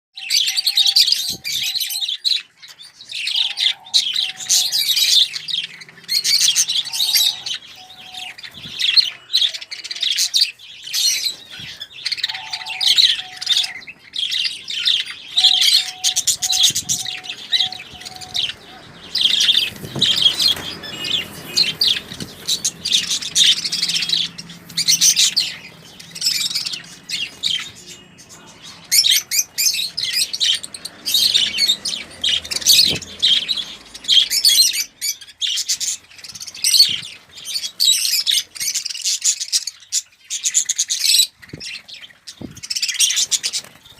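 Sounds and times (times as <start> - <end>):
budgerigars chirping: 0.2 - 43.9.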